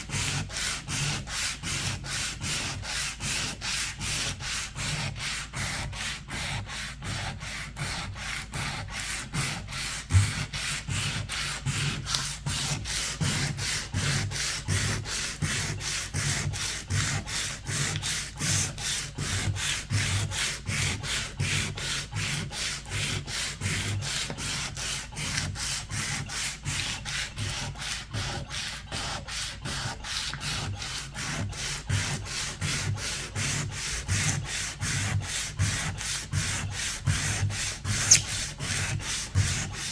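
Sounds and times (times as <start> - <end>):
sandpaper rubbing: 0.0 - 39.9.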